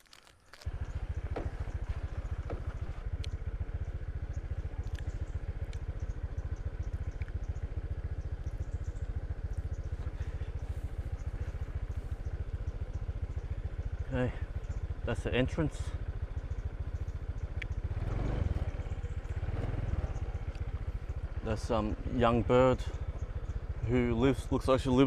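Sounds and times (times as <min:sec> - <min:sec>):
motorcycle engine: 0:00.1 - 0:25.0.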